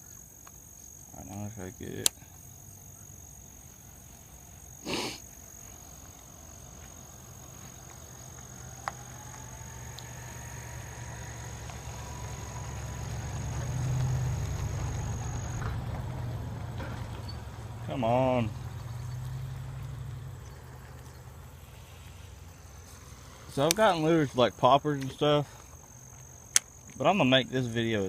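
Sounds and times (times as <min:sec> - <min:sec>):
insect drone: 0:00.0 - 0:28.0
vehicle engine rumble: 0:01.2 - 0:28.0.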